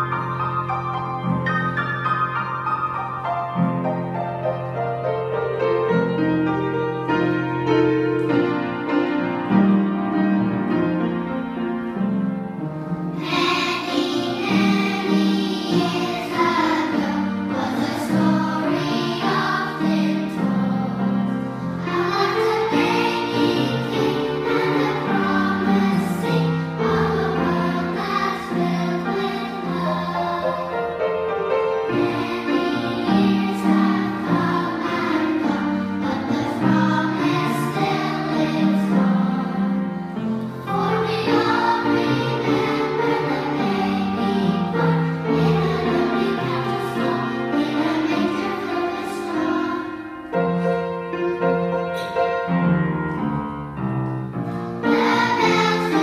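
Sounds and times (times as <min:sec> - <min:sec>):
children's choir singing: 0:00.0 - 0:56.0.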